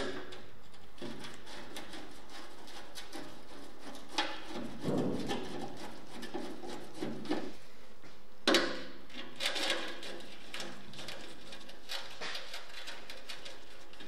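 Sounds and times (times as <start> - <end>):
screwdriver scraping rusty screw: 0.0 - 7.5, 9.2 - 14.0.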